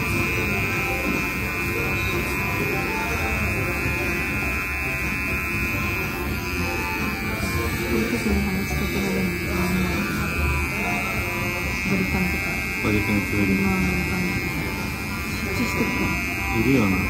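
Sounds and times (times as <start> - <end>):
hair trimmer buzzing: 0.0 - 17.0.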